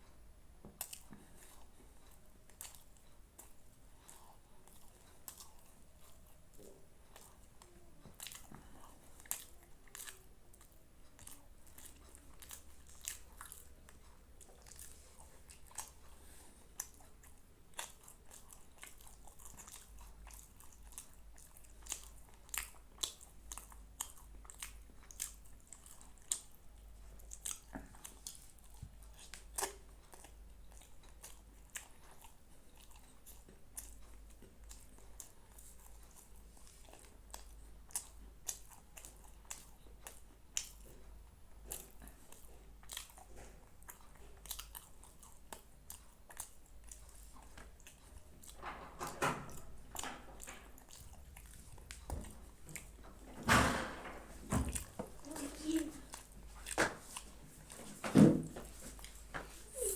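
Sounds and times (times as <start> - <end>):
person chewing and biting food: 0.6 - 48.6, 49.4 - 53.3, 54.2 - 58.0, 58.6 - 59.9
mouth clicks and crunches: 0.8 - 53.4.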